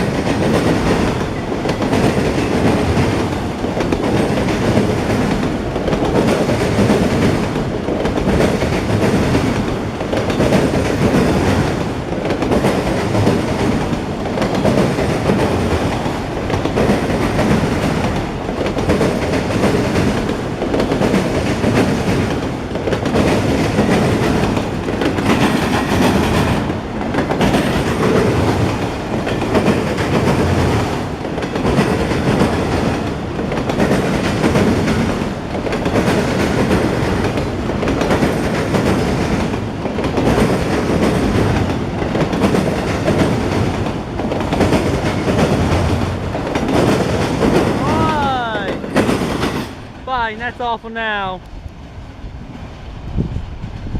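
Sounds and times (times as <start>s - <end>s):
freight cars clickety-clack on rails: 0.0s - 53.9s.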